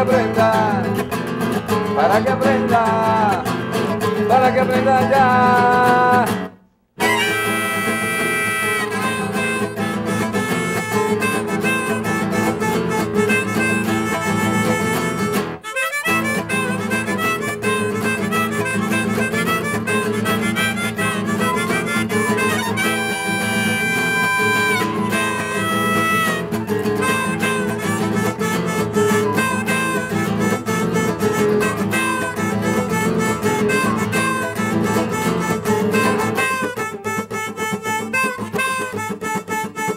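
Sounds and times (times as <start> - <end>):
classical guitar strumming: 0.0 - 39.9
flute: 7.0 - 39.9
harmonica: 7.0 - 39.9.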